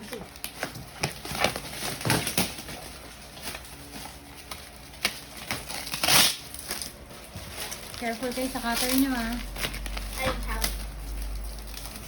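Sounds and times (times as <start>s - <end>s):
cardboard tearing: 0.4s - 12.0s.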